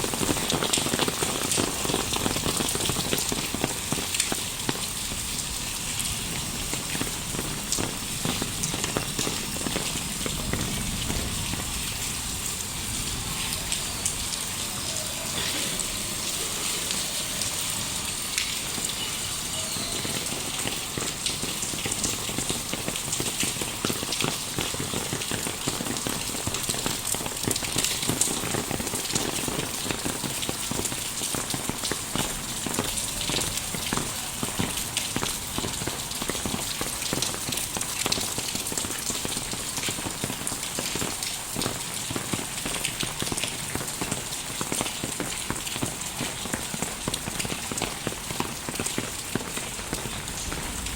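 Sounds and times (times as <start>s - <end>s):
light rain falling: 0.0s - 50.9s.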